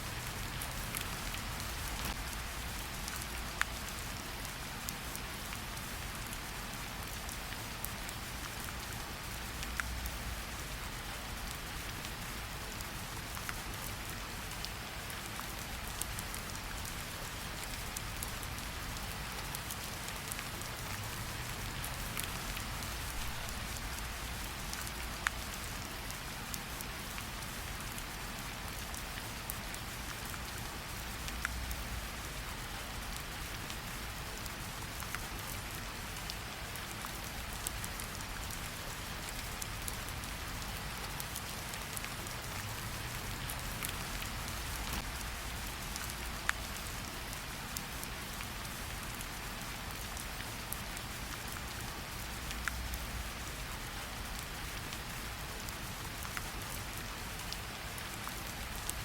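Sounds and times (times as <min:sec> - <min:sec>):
steady rain falling: 0:00.0 - 0:59.0
drips and ticks on a surface: 0:00.2 - 0:59.0.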